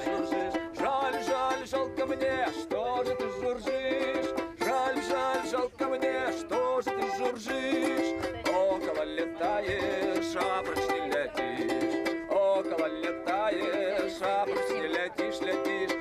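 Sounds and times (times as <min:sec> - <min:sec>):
balalaika strummed rapidly: 0:00.0 - 0:16.0.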